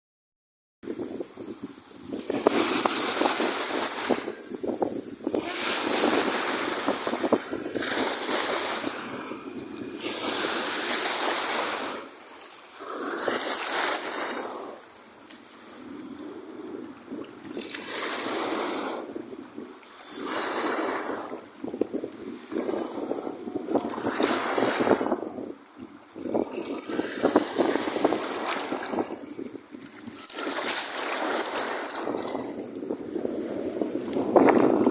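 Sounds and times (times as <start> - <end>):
sea water washing and splashing: 0.9 - 34.9.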